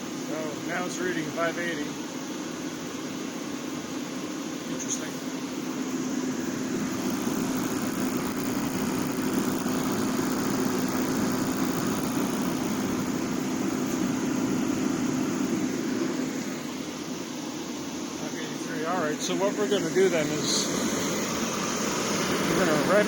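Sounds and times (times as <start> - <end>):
propane heater burner roar: 0.0 - 23.0.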